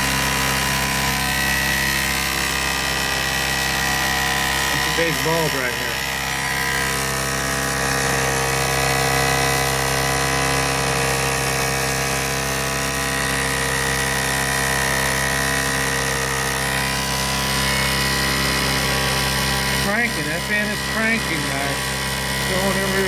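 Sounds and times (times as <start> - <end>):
pump motor and fan whirring: 0.0 - 23.0.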